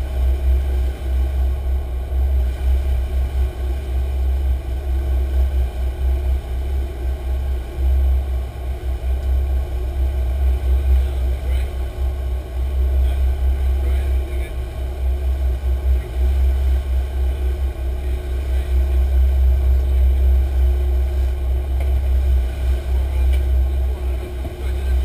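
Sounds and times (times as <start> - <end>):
boat engines droning: 0.0 - 25.0.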